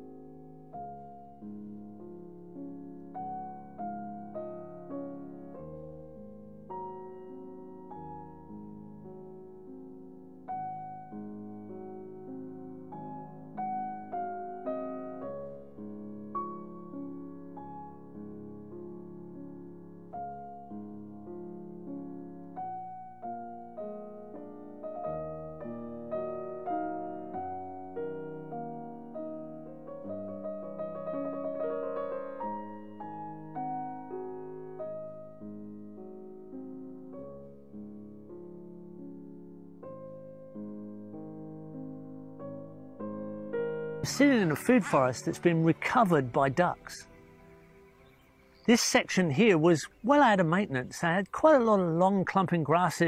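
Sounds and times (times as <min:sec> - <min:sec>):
slow piano music: 0:00.0 - 0:53.0.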